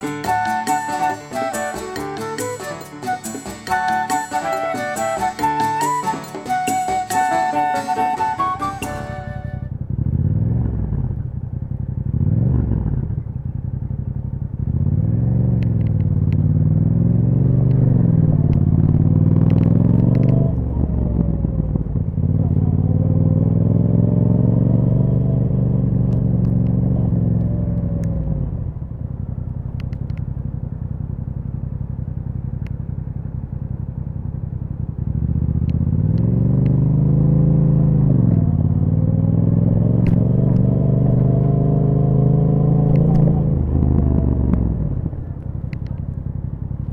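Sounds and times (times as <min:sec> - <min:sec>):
motorcycle engine revving: 0:08.2 - 0:46.9.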